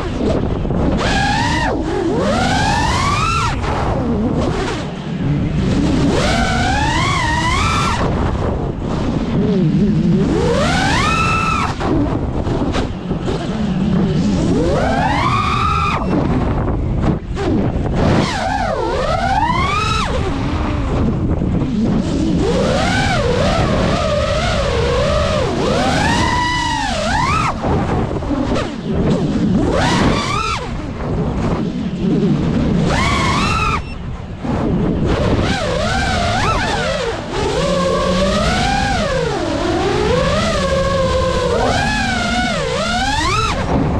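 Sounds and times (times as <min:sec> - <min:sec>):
drone motors whining: 0:00.0 - 0:43.9
low rumble of wind: 0:00.0 - 0:43.9
rushing air noise: 0:00.0 - 0:43.9.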